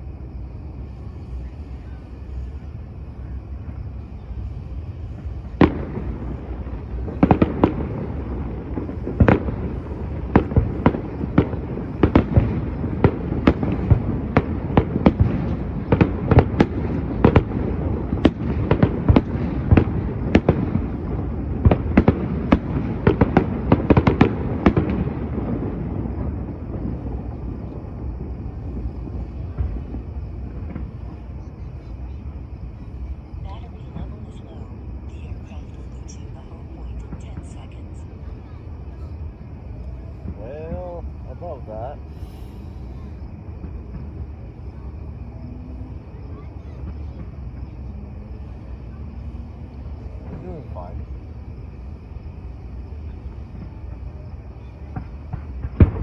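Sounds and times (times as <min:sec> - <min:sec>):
fireworks exploding: 0:00.0 - 0:56.0.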